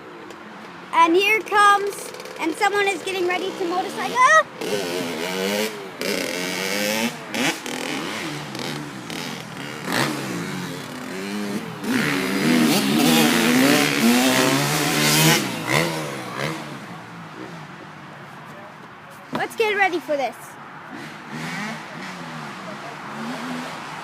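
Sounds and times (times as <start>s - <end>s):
dirt bike engine revving: 1.4s - 18.1s, 20.9s - 24.0s.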